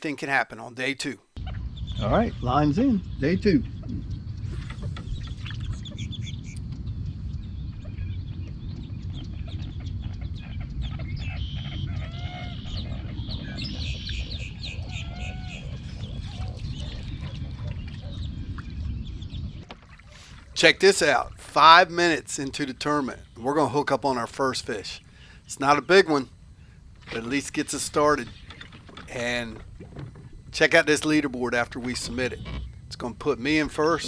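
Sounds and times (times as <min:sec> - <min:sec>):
swooping bird calls: 0:01.2 - 0:34.0
birds chirping and clucking: 0:01.4 - 0:34.0
steady low rumble: 0:01.4 - 0:34.0.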